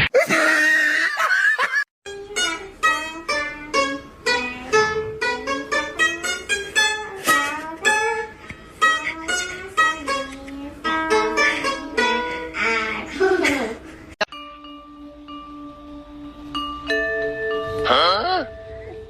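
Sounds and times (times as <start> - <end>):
plucked string melody: 2.1 - 19.0.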